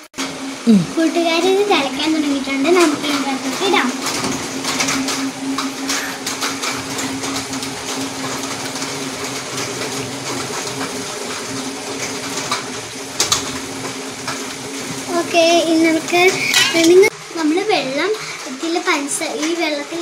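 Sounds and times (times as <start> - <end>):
water boiling in saucepan: 0.0 - 20.0.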